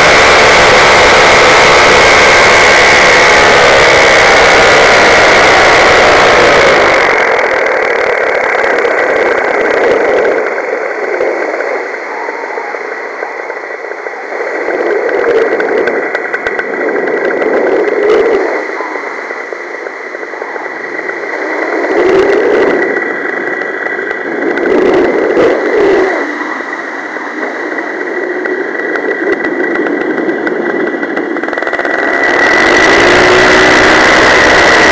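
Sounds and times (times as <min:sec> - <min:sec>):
paramotor engine running: 0:00.0 - 0:34.9
wind noise on microphone: 0:00.0 - 0:34.9.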